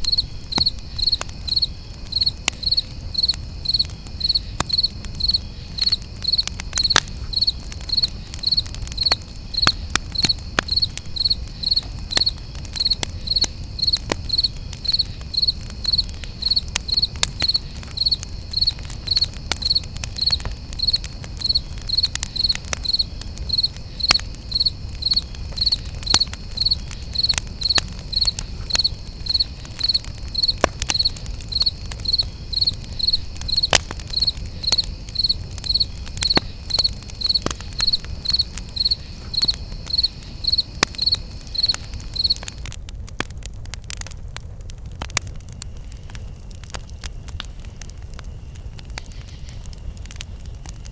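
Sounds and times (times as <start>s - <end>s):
crickets chirping: 0.0s - 42.7s, 45.5s - 50.9s
campfire popping and crackling: 0.0s - 50.9s.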